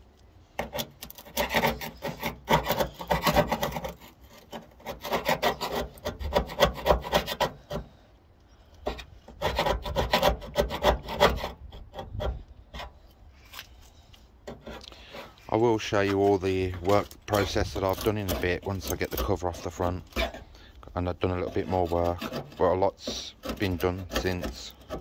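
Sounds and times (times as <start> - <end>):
scraper rasping on steel panel: 0.5 - 25.0.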